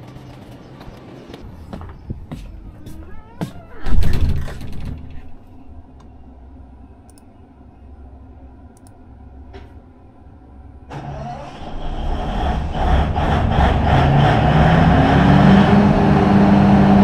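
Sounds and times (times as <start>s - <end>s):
low steady hum: 0.0s - 14.0s
generator engine starting and running: 0.0s - 17.0s.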